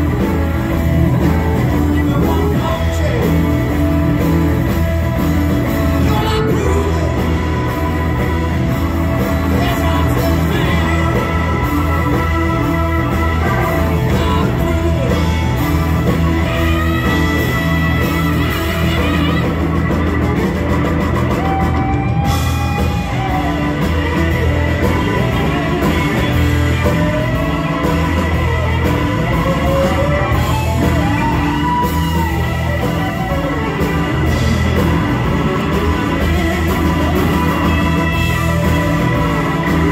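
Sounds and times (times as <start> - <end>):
bass guitar: 0.0 - 39.9
drum kit: 0.0 - 39.9
lead electric guitar: 0.0 - 39.9.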